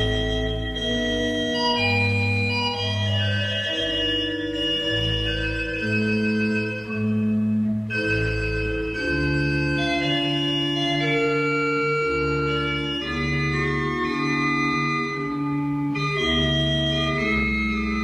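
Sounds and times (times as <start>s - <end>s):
organ chords: 0.0s - 18.0s.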